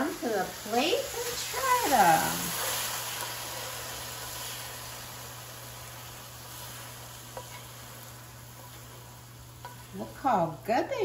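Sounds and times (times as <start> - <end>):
pears sizzling in frying pan: 0.0 - 11.0.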